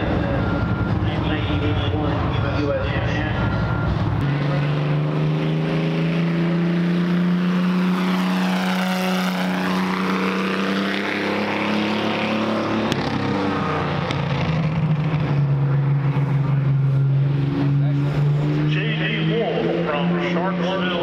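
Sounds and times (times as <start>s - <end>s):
race car driving past: 0.0s - 21.0s.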